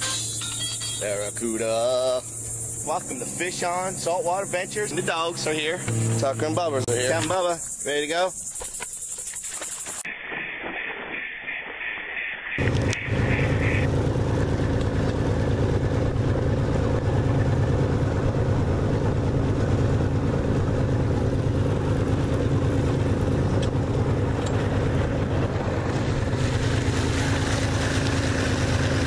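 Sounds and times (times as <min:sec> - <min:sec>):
boat motor running: 0:00.0 - 0:08.9, 0:12.6 - 0:29.0.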